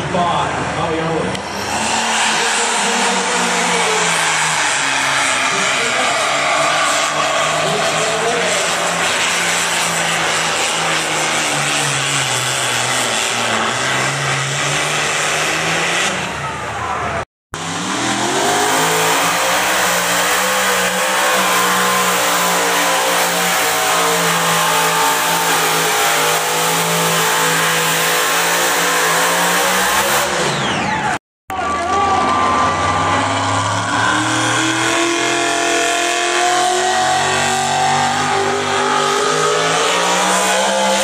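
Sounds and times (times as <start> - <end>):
vehicle engine running at full throttle: 0.0 - 41.0.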